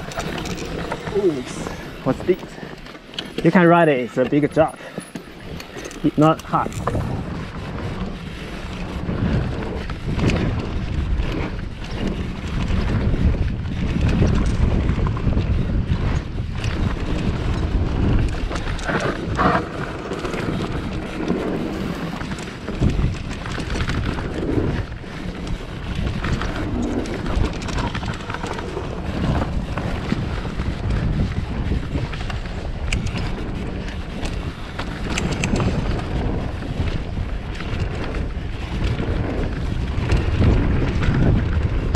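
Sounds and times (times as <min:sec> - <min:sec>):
bike knocking and rattling: 0:00.0 - 0:41.9
tyres rumbling on dirt: 0:00.0 - 0:41.9
wind buffeting microphone: 0:00.0 - 0:41.9.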